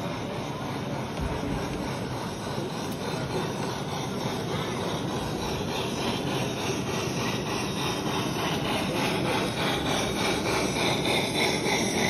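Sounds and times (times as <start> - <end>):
background hubbub: 0.0 - 12.0
steam locomotive chuffing: 0.0 - 12.0.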